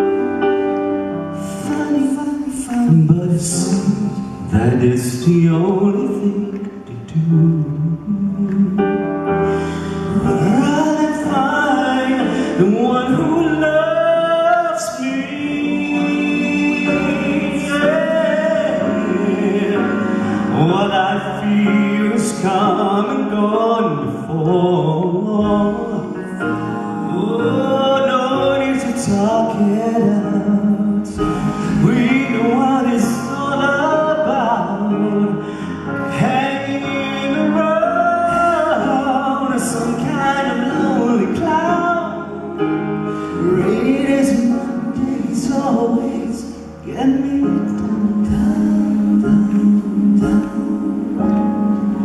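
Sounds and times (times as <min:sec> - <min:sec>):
instrumental accompaniment: 0:00.0 - 0:52.0
man singing: 0:01.4 - 0:09.4, 0:10.0 - 0:51.9.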